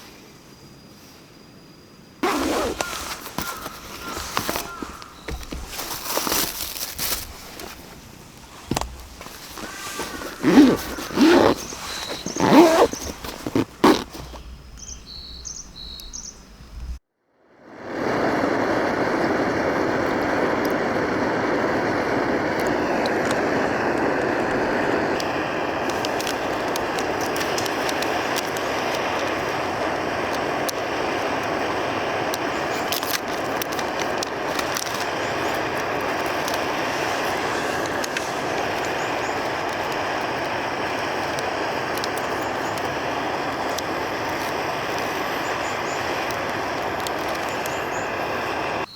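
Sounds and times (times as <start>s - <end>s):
fire popping and crackling: 2.2s - 15.0s, 17.9s - 48.9s
campfire burning: 2.2s - 48.9s.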